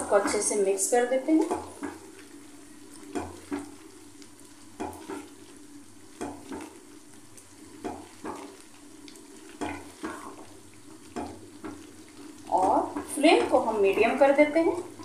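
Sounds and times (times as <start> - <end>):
spatula stirring in a pan: 0.0 - 15.0
steady sizzle: 0.0 - 15.0.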